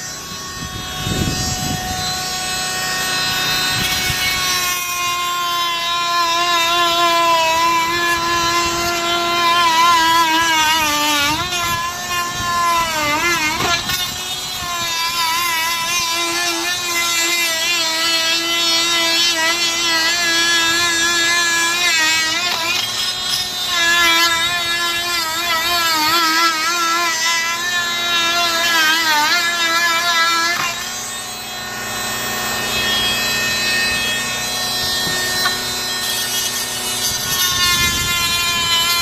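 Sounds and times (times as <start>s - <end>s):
small engine running at high speed: 0.0s - 39.0s.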